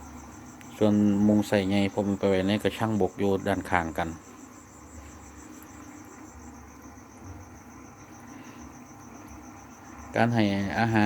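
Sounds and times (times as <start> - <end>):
crickets trilling: 0.0 - 11.0
faint low hum: 0.0 - 11.0.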